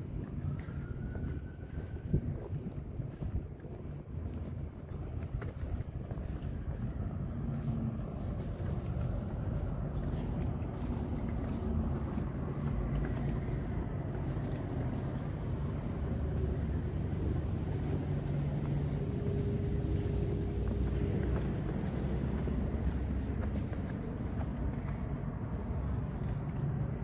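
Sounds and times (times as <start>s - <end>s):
motor vehicles rumbling: 0.0s - 27.0s.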